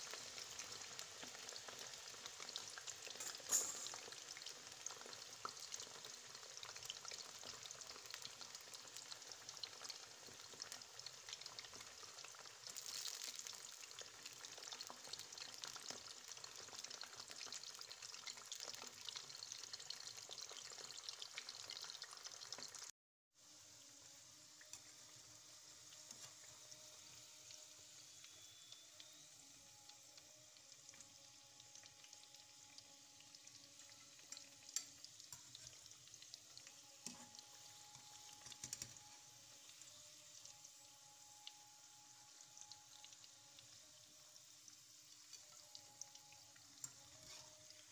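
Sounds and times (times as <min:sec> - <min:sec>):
potatoes sizzling in hot oil: 0:00.0 - 0:47.9.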